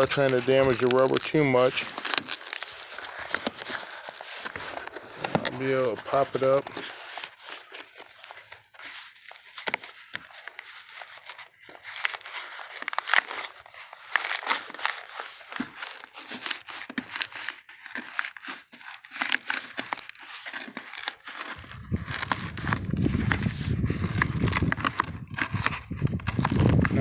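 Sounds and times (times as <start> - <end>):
rubber strip peeling and crackling: 0.0 - 27.0.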